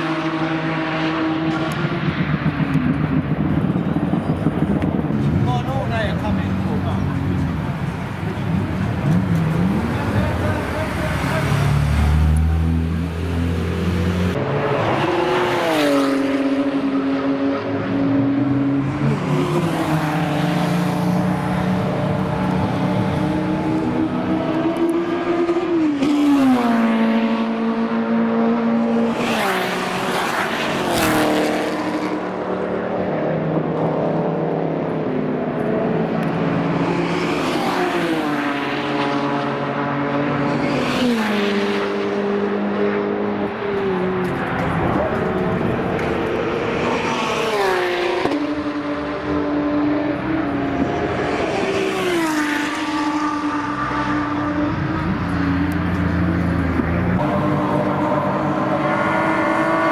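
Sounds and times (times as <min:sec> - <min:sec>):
race cars driving past: 0:00.0 - 0:59.9.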